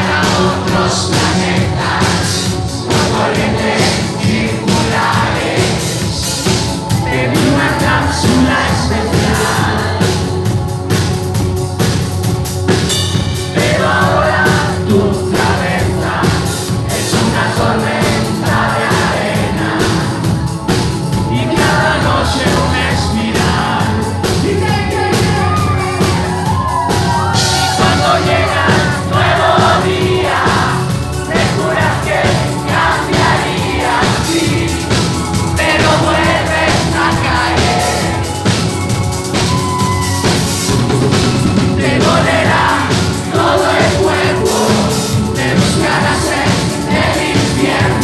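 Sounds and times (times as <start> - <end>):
person singing: 0.0 - 10.9, 13.4 - 48.0
pop-rock band playing live: 0.0 - 48.0.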